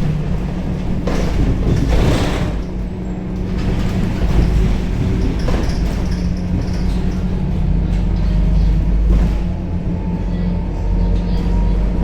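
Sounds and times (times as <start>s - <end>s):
bus diesel engine droning: 0.0s - 12.0s
road rumble: 0.0s - 12.0s.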